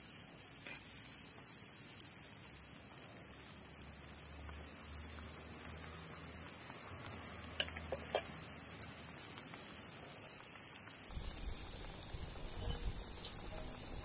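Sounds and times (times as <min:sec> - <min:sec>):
soup bubbling at a boil: 0:00.0 - 0:14.0
steady hiss: 0:00.0 - 0:14.0.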